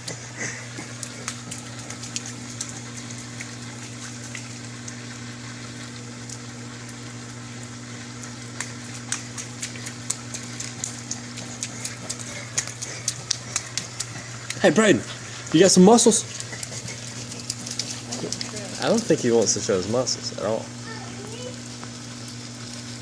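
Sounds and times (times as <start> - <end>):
raindrops ticking and splashing: 0.0 - 23.0
steady low hum: 0.0 - 23.0.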